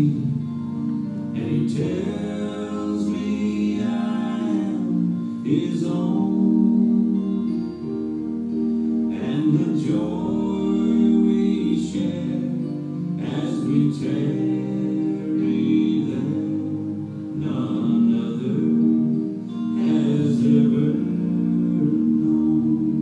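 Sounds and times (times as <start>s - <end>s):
hymn singing: 0.0s - 23.0s
sustained keyboard chords: 0.0s - 23.0s.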